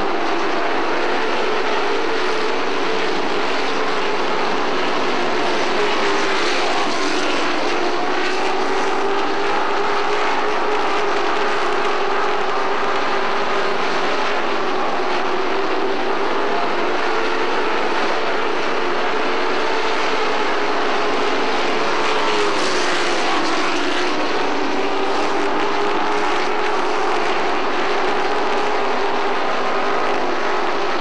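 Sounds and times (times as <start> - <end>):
race truck engines droning: 0.0 - 31.0.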